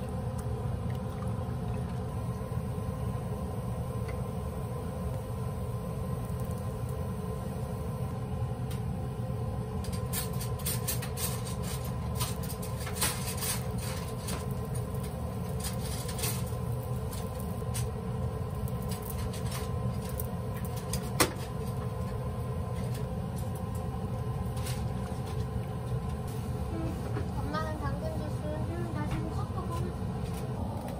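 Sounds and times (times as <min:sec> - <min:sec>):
low kitchen hum: 0:00.0 - 0:30.9.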